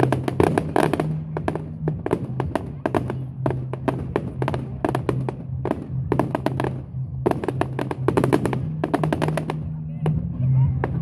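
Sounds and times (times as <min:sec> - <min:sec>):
fireworks cracking and banging: 0:00.0 - 0:11.0
low hum: 0:00.0 - 0:11.0.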